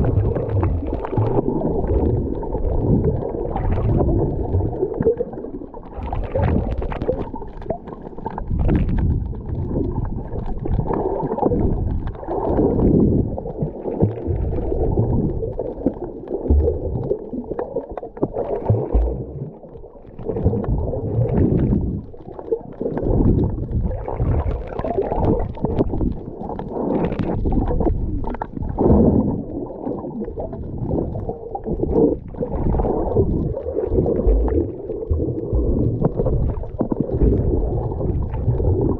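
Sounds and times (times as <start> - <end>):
muffled underwater rumble and sloshing: 0.0 - 38.9.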